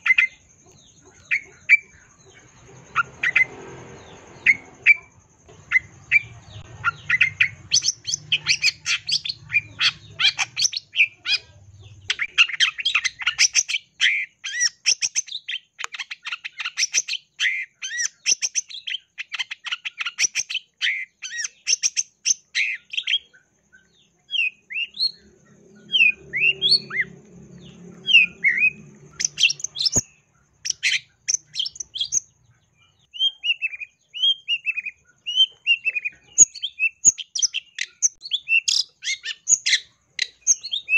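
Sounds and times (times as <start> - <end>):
bird chattering song: 0.0 - 40.9
bird whistled chirps: 0.0 - 40.9.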